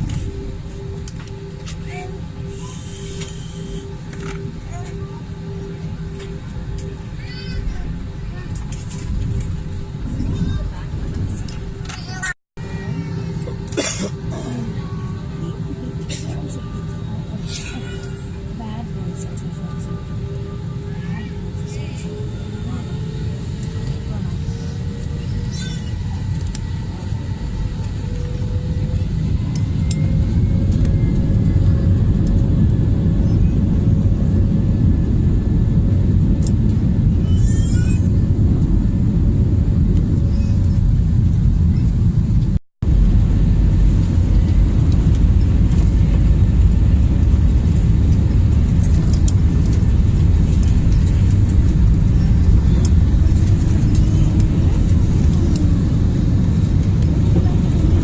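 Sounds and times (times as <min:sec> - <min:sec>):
jet engines at high power: 0:00.0 - 0:58.0
takeoff roll rumble: 0:00.0 - 0:58.0.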